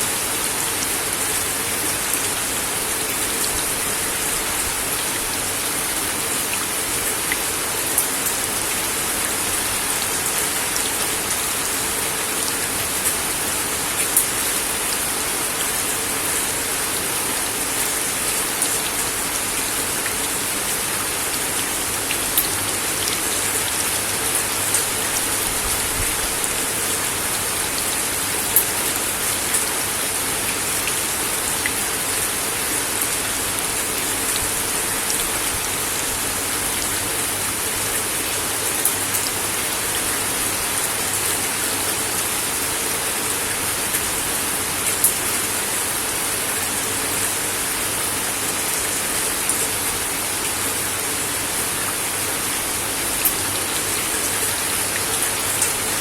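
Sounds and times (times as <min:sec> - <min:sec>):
rain on a wooden deck: 0:00.0 - 0:56.0.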